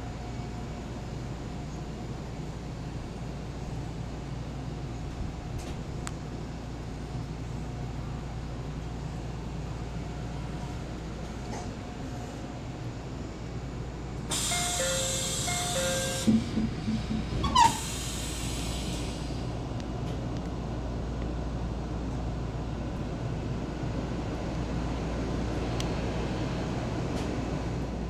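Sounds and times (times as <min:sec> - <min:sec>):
standing train hum: 0:00.0 - 0:28.0.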